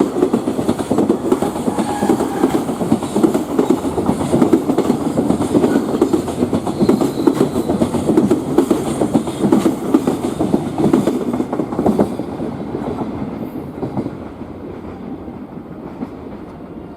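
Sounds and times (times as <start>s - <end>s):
train wheels clattering over rail joints: 0.0s - 14.4s.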